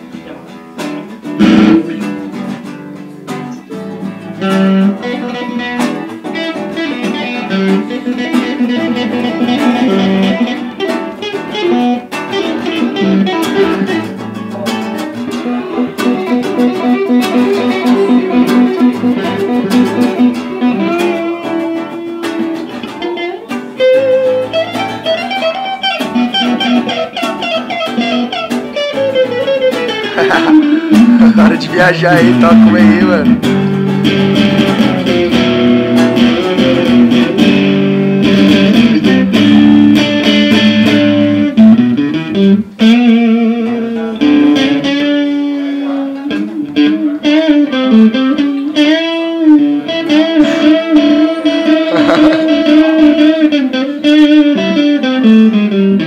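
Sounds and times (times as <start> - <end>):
acoustic guitar: 0.0 - 56.0
electric guitar: 0.0 - 56.0.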